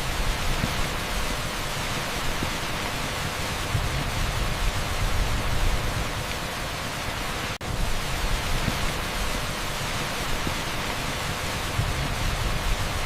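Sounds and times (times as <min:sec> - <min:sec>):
torrential rain on asphalt: 0:00.0 - 0:13.0.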